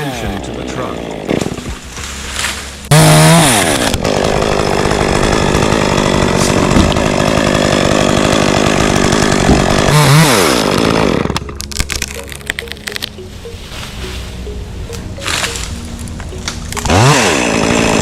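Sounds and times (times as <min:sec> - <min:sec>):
chainsaw engine running: 0:00.0 - 0:13.3, 0:14.0 - 0:18.0.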